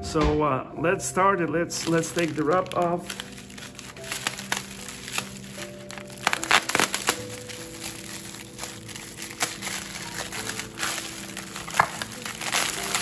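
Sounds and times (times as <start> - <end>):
background music: 0.0 - 13.0
plastic wrapper crinkling: 1.6 - 13.0.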